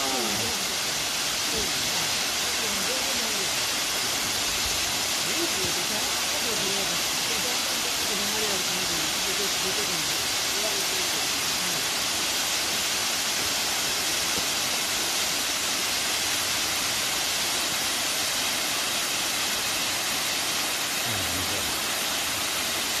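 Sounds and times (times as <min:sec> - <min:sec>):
waterfall cascading: 0:00.0 - 0:23.0.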